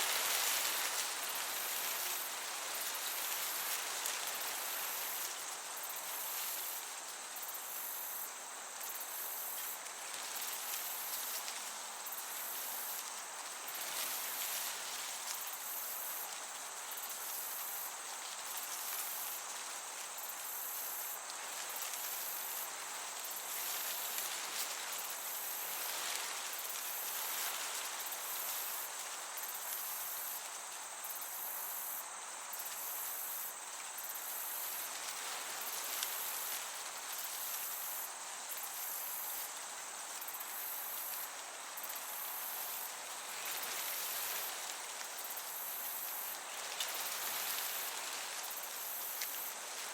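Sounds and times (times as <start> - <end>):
crickets chirping: 0.0 - 49.9
soft hiss of breeze: 0.0 - 49.9.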